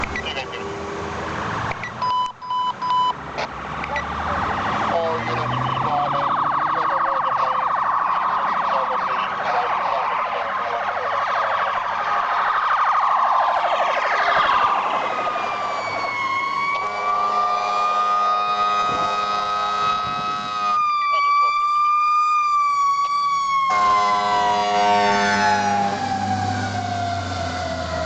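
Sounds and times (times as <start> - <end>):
emergency vehicle sirens wailing: 0.0 - 28.0.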